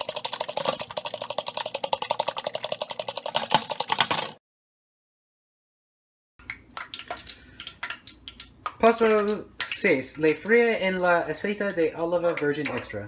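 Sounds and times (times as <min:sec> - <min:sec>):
whisk beating eggs in a bowl: 0:00.0 - 0:04.4, 0:06.6 - 0:13.0.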